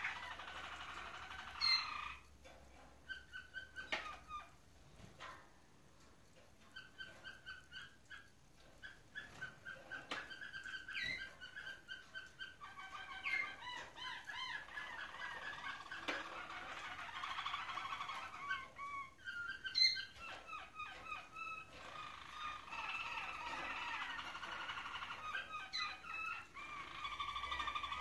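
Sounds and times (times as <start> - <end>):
canaries singing trills: 0.0 - 28.0.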